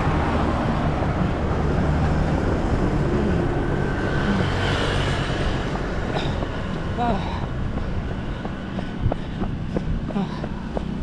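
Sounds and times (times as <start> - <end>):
vehicles passing on road: 0.0 - 11.0.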